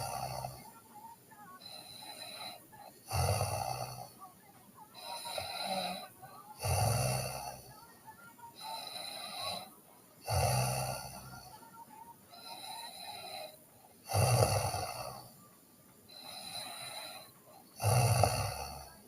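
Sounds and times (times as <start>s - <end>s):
person snoring: 0.0s - 0.8s, 1.6s - 4.2s, 5.0s - 15.4s, 16.1s - 19.0s.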